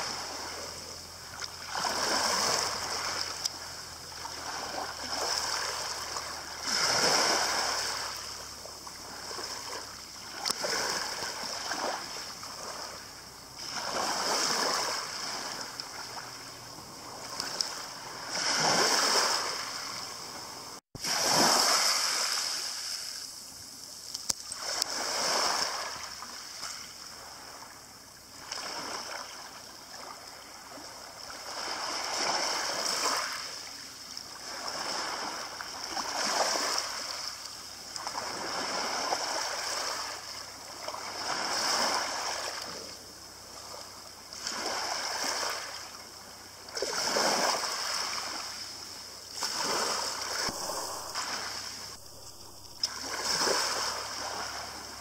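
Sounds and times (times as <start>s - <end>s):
waves washing over pebble beach: 0.0s - 27.5s, 28.3s - 43.0s, 43.6s - 55.0s.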